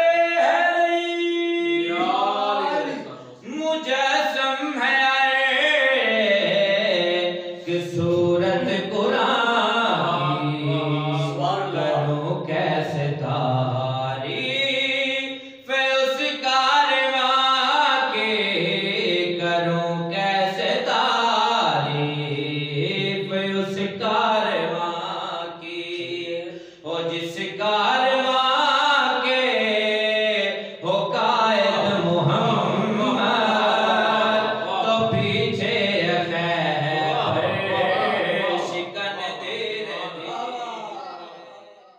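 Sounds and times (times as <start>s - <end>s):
man chanting into a microphone: 0.0s - 41.9s.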